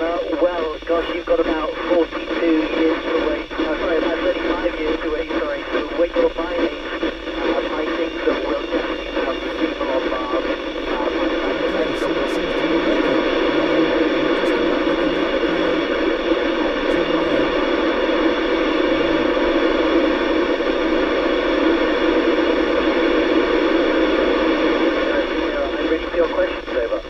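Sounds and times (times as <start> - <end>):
radio static hiss: 0.0 - 27.0.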